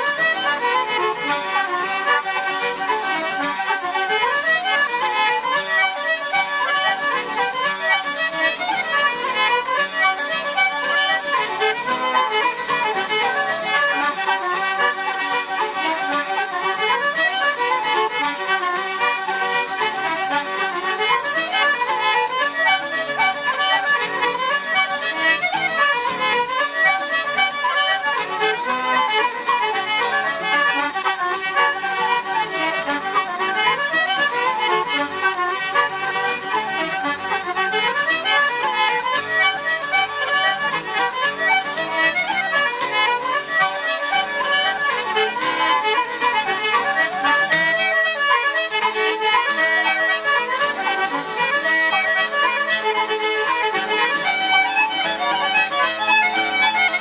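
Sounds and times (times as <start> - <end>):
fiddle playing fast notes: 0.0 - 57.0
folk reel played by a band: 0.0 - 57.0.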